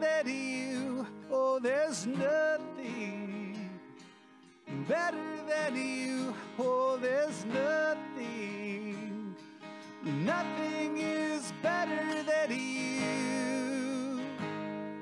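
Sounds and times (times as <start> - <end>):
acoustic guitar music with melody: 0.0 - 15.0.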